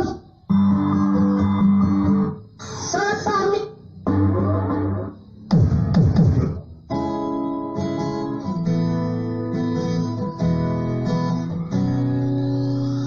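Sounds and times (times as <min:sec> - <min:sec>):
guitar chords over car speakers: 0:00.0 - 0:13.0.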